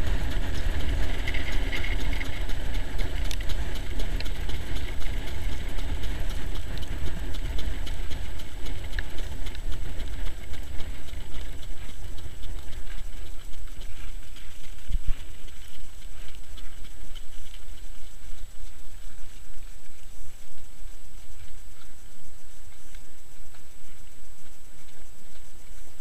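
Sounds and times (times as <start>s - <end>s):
cart wheels rolling on track: 0.0s - 26.0s
horse hoofbeats trotting: 0.0s - 26.0s
wind buffeting microphone: 0.0s - 26.0s.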